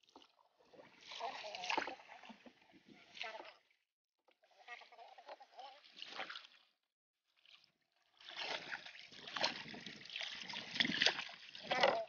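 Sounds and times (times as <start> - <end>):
paddle splashing in water: 0.0 - 3.7, 4.5 - 6.8, 7.4 - 12.0.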